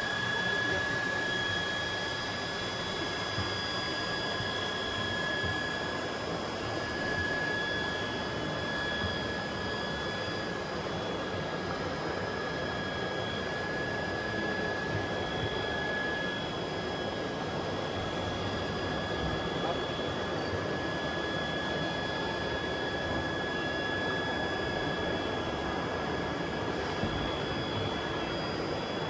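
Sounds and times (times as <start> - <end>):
mechanical whir with high whine: 0.0 - 29.0.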